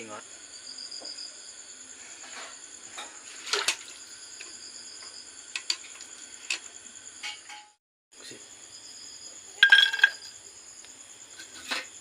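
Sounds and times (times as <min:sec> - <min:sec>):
crickets trilling: 0:00.0 - 0:07.6, 0:08.2 - 0:12.0.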